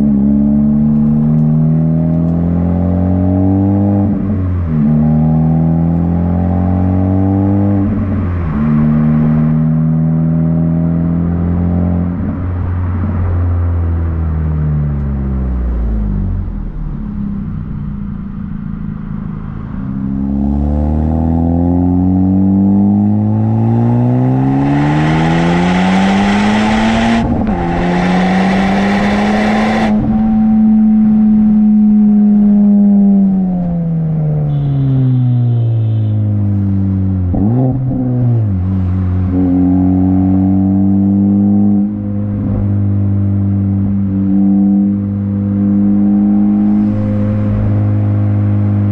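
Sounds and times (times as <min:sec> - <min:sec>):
car engine revving through gears: 0:00.0 - 0:13.9, 0:14.9 - 0:34.5, 0:36.6 - 0:48.9.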